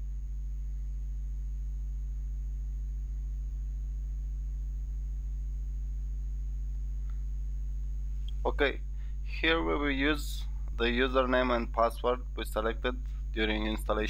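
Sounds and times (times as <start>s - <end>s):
faint high whine: 0.0s - 14.0s
low electrical hum: 0.0s - 14.0s.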